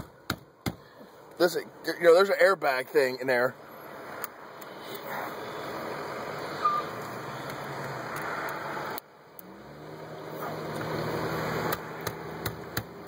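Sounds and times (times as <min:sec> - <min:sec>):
car and road noise: 0:00.0 - 0:13.0.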